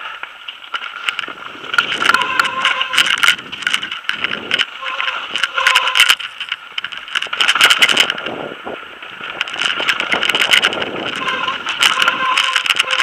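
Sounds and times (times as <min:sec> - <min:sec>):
mountain bike rattling over rocks: 0:00.0 - 0:13.0
tyre and wind rush: 0:00.8 - 0:13.0.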